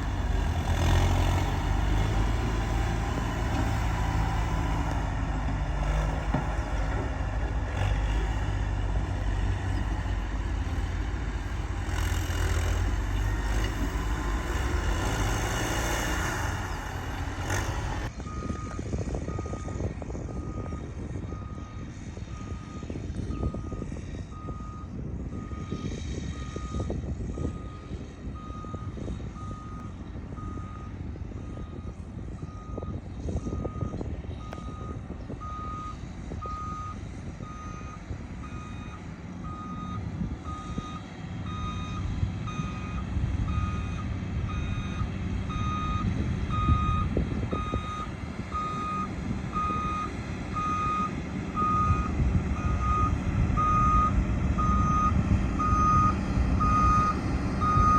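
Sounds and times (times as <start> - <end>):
diesel engine running: 0.0 - 57.9
truck reversing alarm beeping: 0.0 - 57.9.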